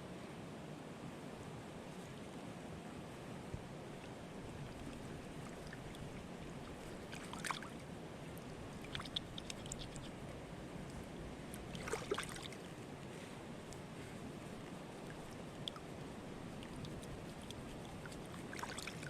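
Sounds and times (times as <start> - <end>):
mountain stream running: 3.7 - 19.0.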